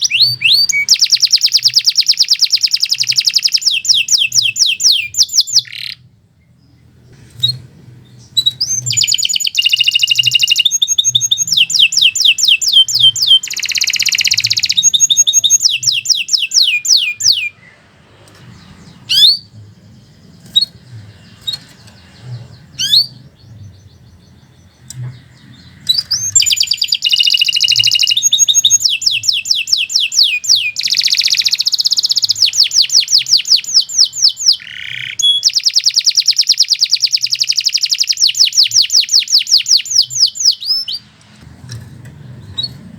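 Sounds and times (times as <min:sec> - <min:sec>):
canary single chirps: 0:00.0 - 0:06.0, 0:08.2 - 0:17.8, 0:18.5 - 0:19.5, 0:20.3 - 0:41.1
canary trilling song: 0:00.0 - 0:41.2, 0:42.1 - 0:42.9.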